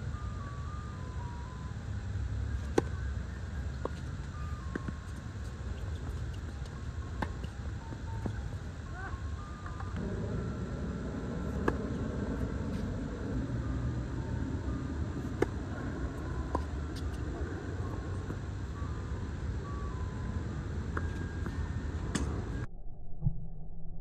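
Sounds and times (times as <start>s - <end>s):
low outdoor rumble: 0.0s - 22.7s.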